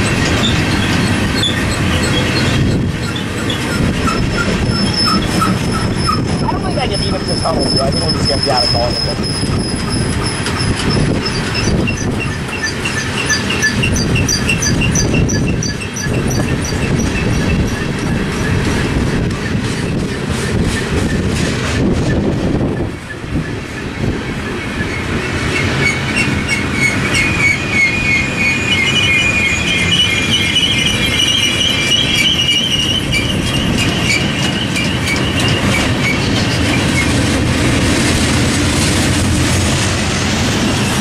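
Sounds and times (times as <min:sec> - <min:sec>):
wheels squealing: 0:00.0 - 0:37.9
freight train rumbling past: 0:00.0 - 0:41.0
wheels clacking on rail joints: 0:00.0 - 0:41.0.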